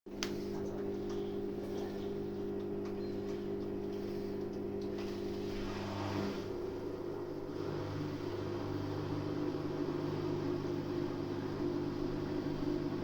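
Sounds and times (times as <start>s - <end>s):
washing machine humming: 0.1s - 13.0s.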